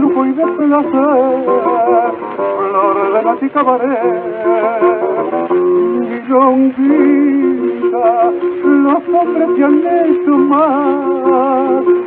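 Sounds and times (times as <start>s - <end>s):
guitar accompaniment: 0.0s - 12.0s
vocal duo singing: 0.0s - 12.0s.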